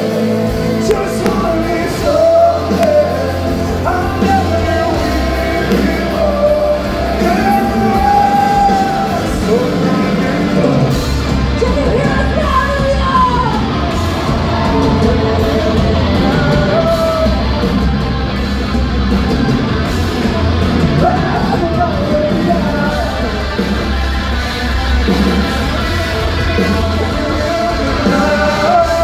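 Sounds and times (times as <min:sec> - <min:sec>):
person singing lead vocal: 0:00.0 - 0:18.4, 0:19.3 - 0:29.0
bass guitar: 0:00.0 - 0:29.0
drums: 0:00.0 - 0:29.0
electric guitars: 0:00.0 - 0:29.0.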